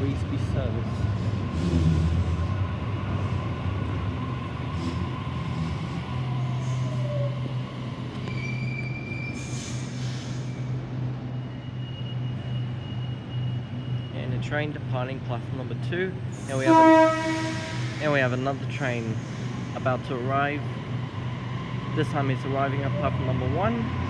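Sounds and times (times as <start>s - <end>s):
train steady low hum: 0.0s - 24.0s.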